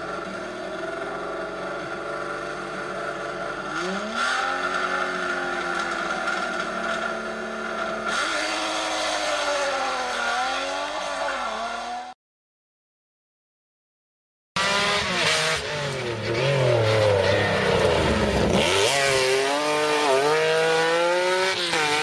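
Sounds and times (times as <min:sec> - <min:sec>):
rally car engine revving: 0:00.0 - 0:12.2, 0:14.6 - 0:22.0.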